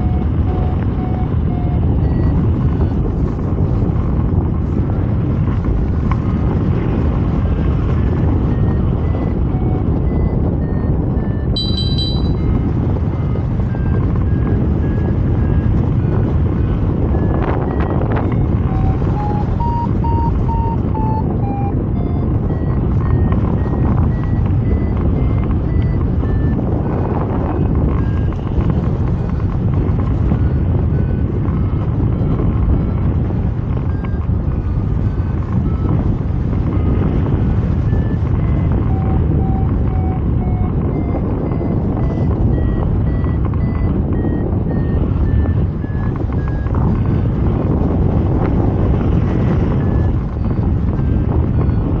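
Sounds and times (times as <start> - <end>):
variometer beeping: 0.0 - 3.9, 5.6 - 52.0
wind rushing over microphone: 0.0 - 52.0.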